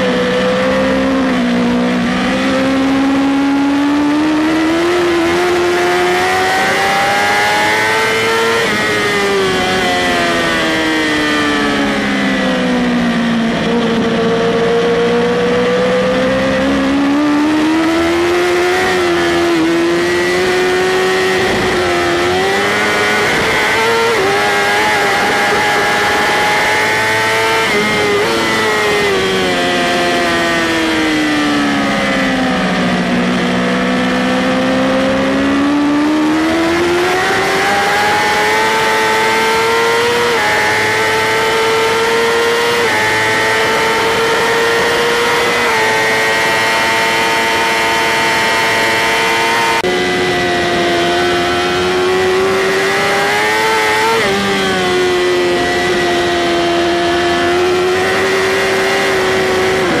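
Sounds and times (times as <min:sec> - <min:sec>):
motorcycle engine at racing speed: 0:00.0 - 1:00.0.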